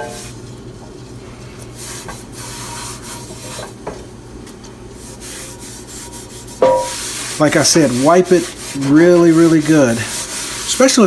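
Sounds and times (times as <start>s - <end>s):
paper towel rubbing on cast iron: 0.0s - 3.8s, 5.0s - 11.0s.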